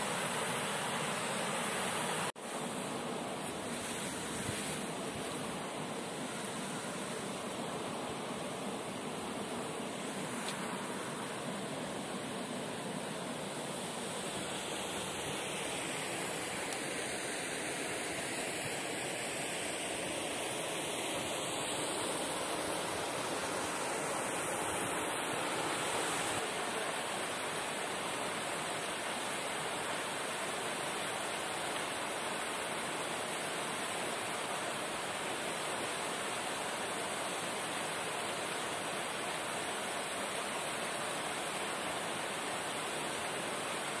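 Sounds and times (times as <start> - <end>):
waterfall and stream rushing: 0.0 - 44.0.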